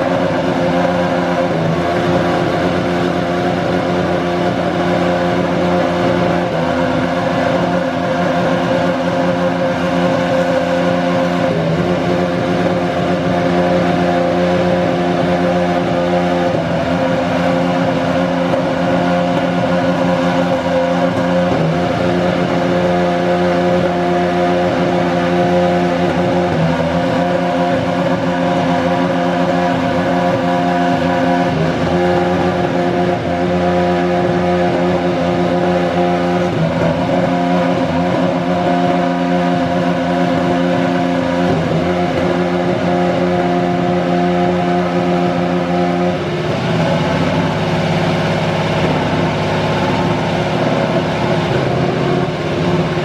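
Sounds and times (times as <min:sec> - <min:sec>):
racing car engine idling: 0:00.0 - 0:53.0.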